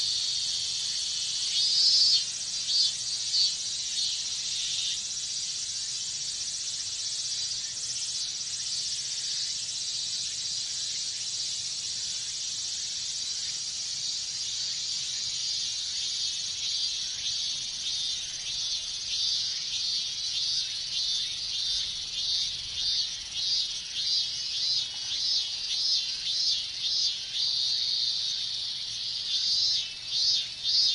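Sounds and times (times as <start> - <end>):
cicada chorus drone: 0.0 - 30.9
cicada pulsing call: 0.0 - 30.9.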